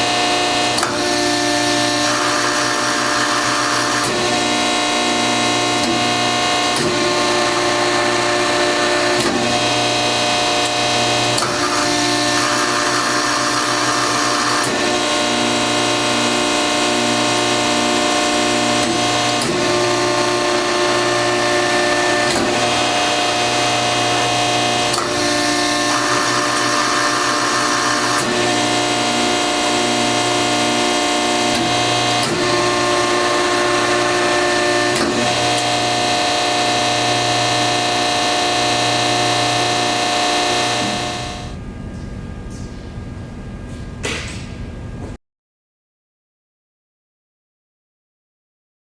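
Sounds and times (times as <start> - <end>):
press brake machine hum and whine: 0.0 - 45.2.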